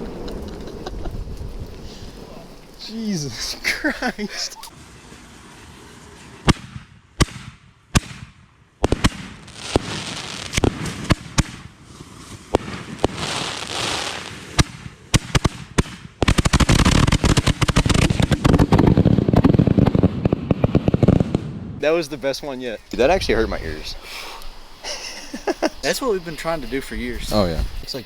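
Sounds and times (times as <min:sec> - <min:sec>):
fireworks bangs: 0:00.0 - 0:27.8
fireworks crackling: 0:00.0 - 0:28.0.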